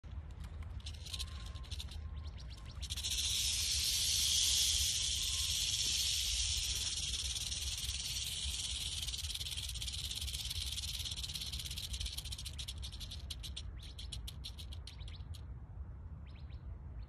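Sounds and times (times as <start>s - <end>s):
rattlesnake tail rattling: 0.3s - 15.0s.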